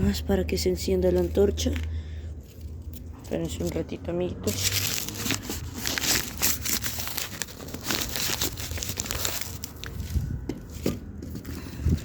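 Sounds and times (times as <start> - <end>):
paper crinkling and rustling: 1.1 - 12.0.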